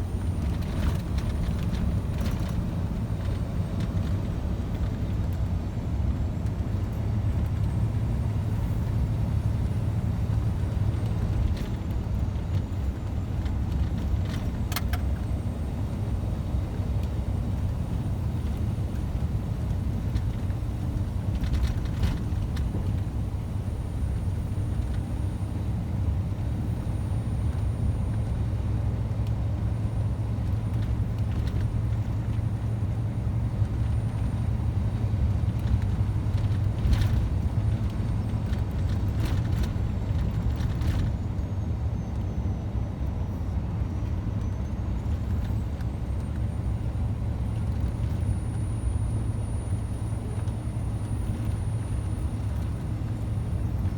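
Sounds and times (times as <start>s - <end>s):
truck engine and road drone: 0.0s - 53.9s.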